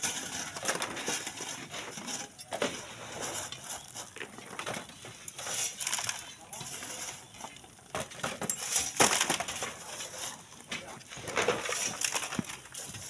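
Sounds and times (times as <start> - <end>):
sand and stones clattering: 0.0 - 13.0.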